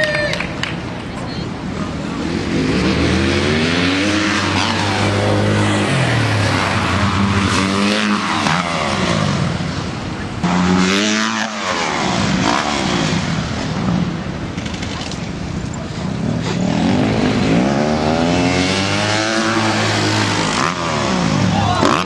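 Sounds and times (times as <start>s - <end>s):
dirt bike engine revving: 1.8s - 15.0s, 16.0s - 22.0s.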